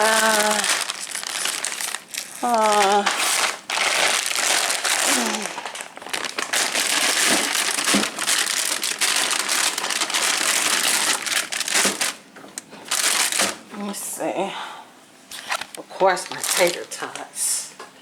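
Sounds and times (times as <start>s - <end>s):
plastic packaging crinkling: 0.0s - 13.7s, 15.3s - 17.3s.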